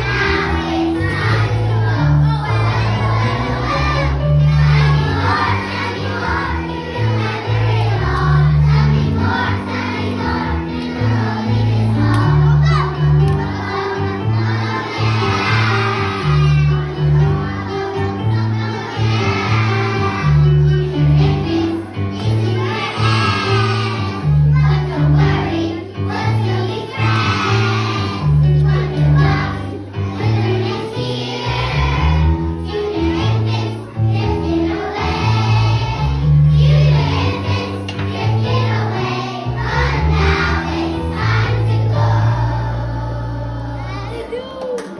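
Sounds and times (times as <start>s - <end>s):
accompanying music: 0.0s - 44.9s
children singing together: 0.0s - 44.9s.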